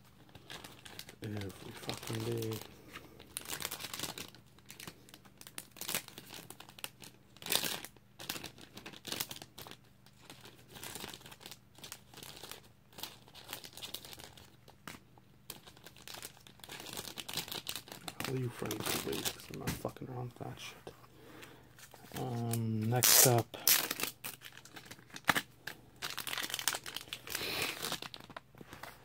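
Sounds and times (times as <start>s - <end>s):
plastic packaging crinkling: 0.0s - 20.7s, 21.6s - 29.0s.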